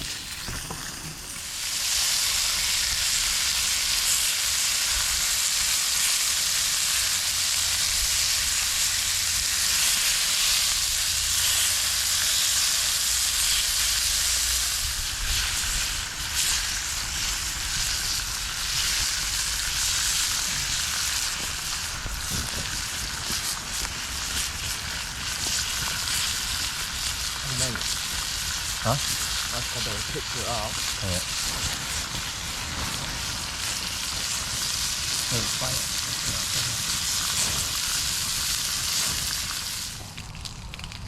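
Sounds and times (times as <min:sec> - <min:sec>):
food sizzling in a hot pan: 0:00.0 - 0:41.0.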